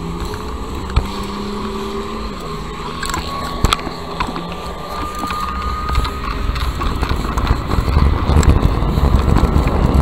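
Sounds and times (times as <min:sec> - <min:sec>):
faint clicks over bumps: 0:00.0 - 0:10.0
tyre road rumble: 0:00.0 - 0:10.0
wind buffeting microphone: 0:00.0 - 0:10.0.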